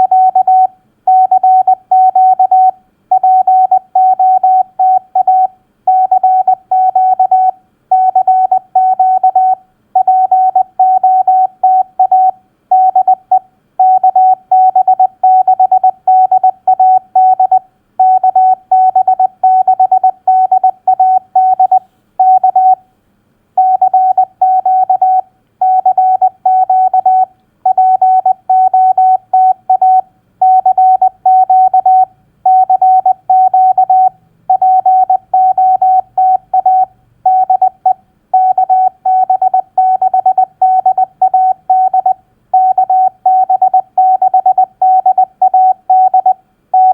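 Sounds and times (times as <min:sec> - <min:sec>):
morse code tone: 0:00.0 - 0:22.8, 0:23.6 - 0:46.9.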